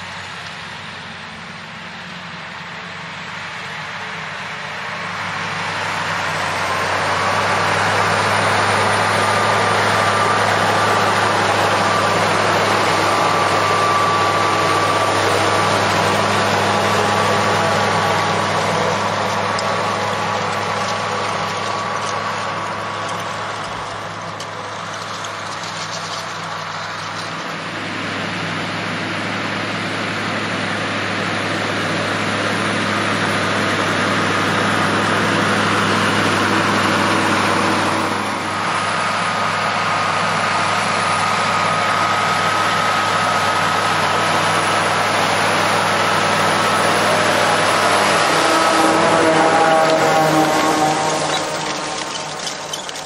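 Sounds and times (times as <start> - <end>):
tractor engine drone: 0.0 - 53.0.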